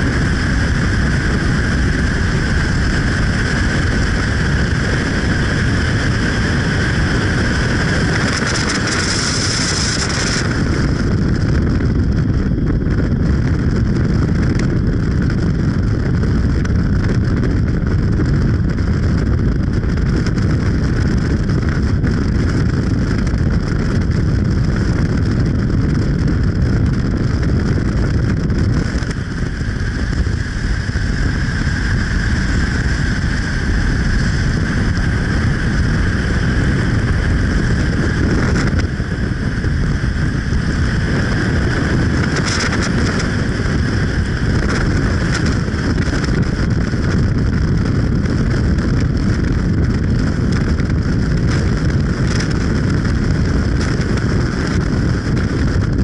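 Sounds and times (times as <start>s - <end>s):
vehicle low rumble: 0.0s - 56.0s
wind noise: 0.0s - 56.0s.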